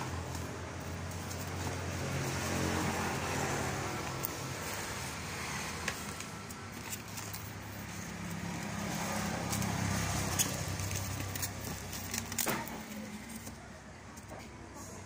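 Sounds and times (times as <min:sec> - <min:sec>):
cardboard and styrofoam rustling: 0:00.0 - 0:13.6.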